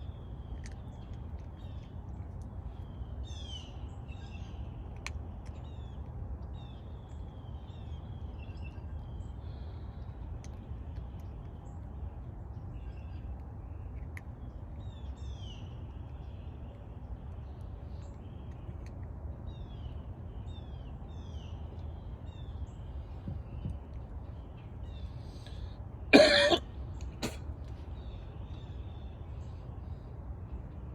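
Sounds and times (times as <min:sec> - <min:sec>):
birds chirping: 0:00.0 - 0:30.9
steady low rumble: 0:00.0 - 0:30.9.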